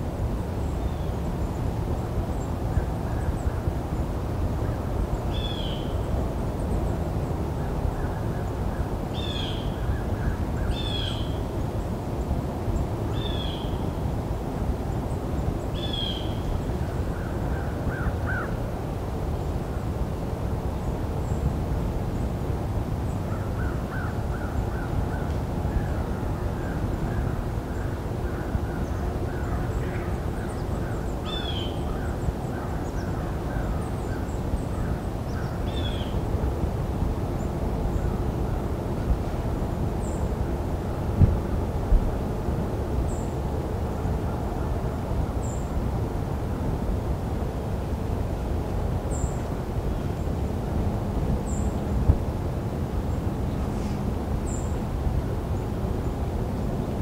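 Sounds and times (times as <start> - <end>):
low background rush: 0.0 - 57.0.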